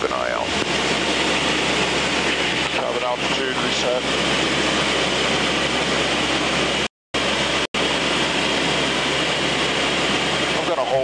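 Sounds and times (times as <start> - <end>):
aircraft engine drone and airflow: 0.0 - 11.0.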